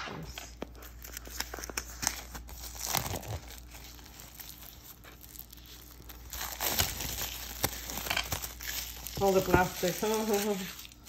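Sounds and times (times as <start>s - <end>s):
plastic shrink-wrap crinkling and tearing: 0.3s - 11.0s.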